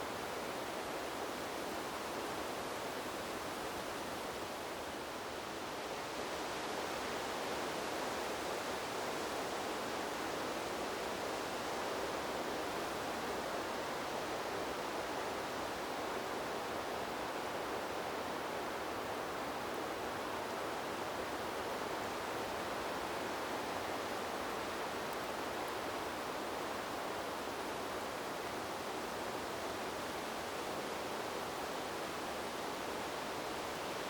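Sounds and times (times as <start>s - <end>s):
wind rustling bamboo leaves: 0.0s - 34.0s.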